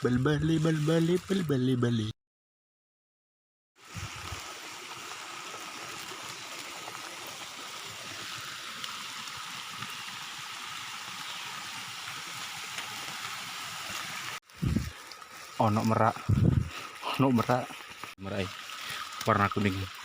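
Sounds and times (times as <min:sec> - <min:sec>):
rain hissing: 0:03.8 - 0:20.0.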